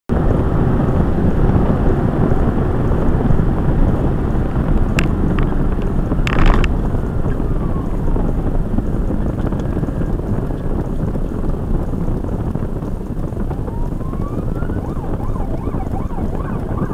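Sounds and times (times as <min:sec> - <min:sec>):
car tyres and engine rumble: 0:00.1 - 0:16.9.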